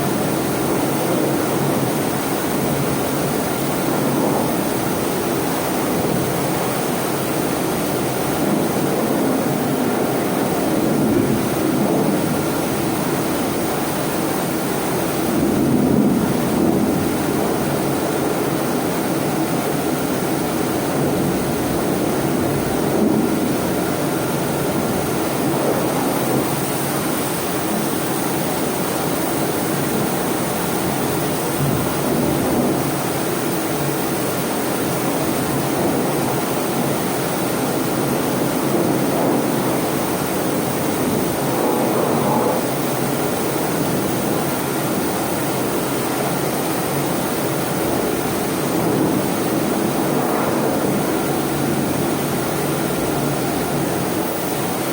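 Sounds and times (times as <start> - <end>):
high-pressure water jet spraying: 0.0 - 54.9.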